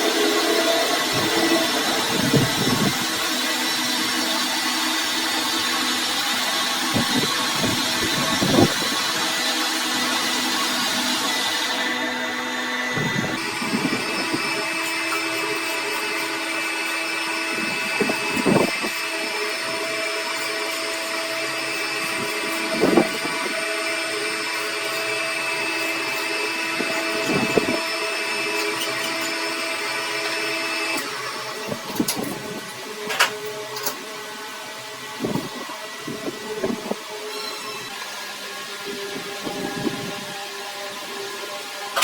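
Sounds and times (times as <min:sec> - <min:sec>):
electric motor humming: 0:00.0 - 0:42.0.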